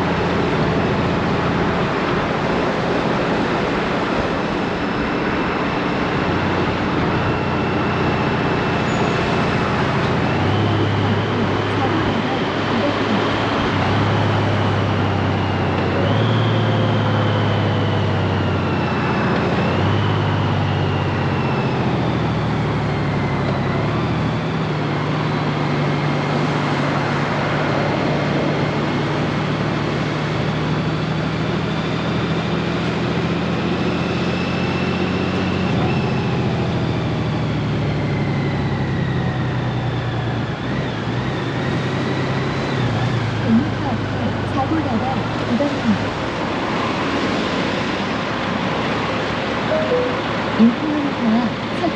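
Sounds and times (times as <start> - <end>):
road and wind noise: 0.0 - 51.9.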